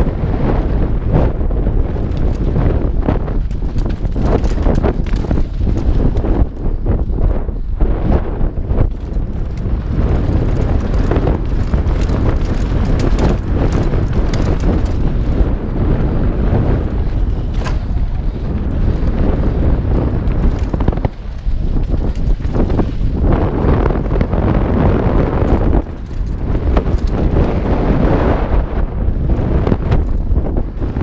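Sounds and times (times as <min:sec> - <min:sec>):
tyres rumbling on dirt and rocks: 0:00.0 - 0:07.3, 0:08.0 - 0:28.3
bike rattling and knocking: 0:00.0 - 0:31.0
wind buffeting microphone: 0:00.0 - 0:31.0.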